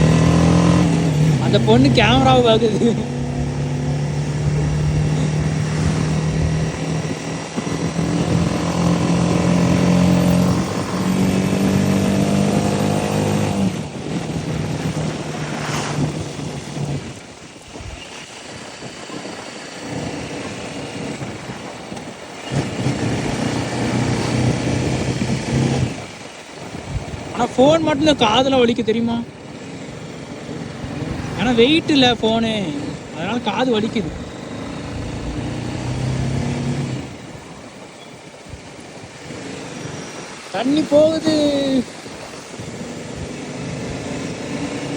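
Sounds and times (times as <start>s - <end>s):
motorcycle engine running: 0.0s - 17.5s, 18.6s - 44.9s.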